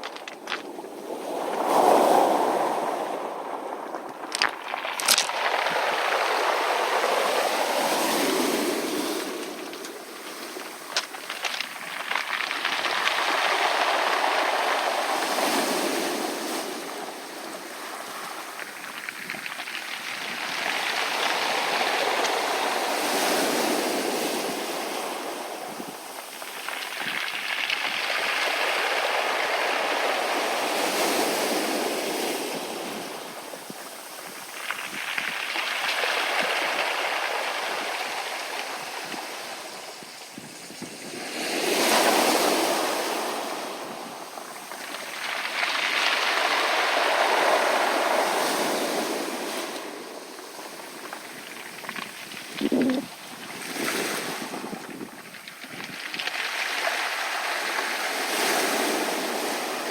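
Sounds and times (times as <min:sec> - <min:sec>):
waves washing through pebbles: 0:00.0 - 0:59.9.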